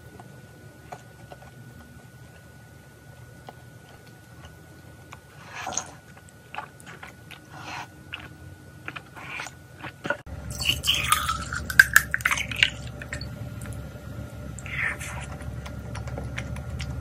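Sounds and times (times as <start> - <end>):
chewing: 0.0 - 13.8, 14.6 - 17.0.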